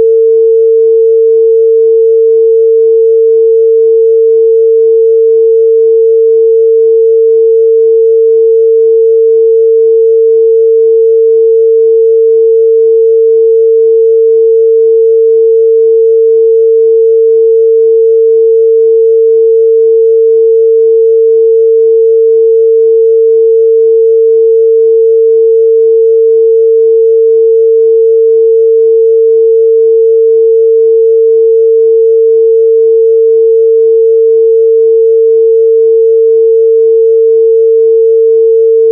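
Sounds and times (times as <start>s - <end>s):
sine test tone: 0.0s - 38.9s.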